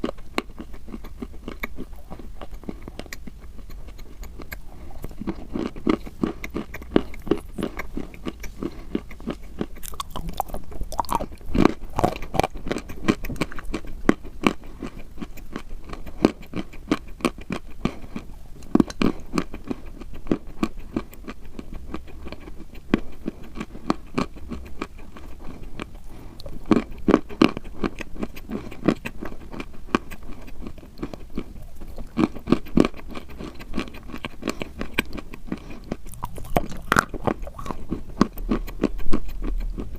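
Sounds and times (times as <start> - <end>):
chalk crunching being chewed: 0.0 - 39.9.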